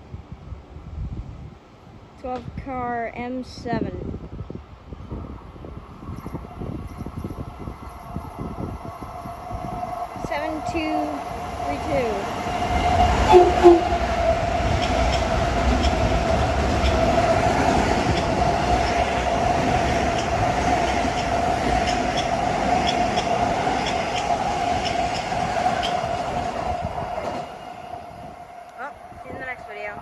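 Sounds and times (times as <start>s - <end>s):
electric train passing: 5.0s - 30.0s
train whine: 5.0s - 30.0s.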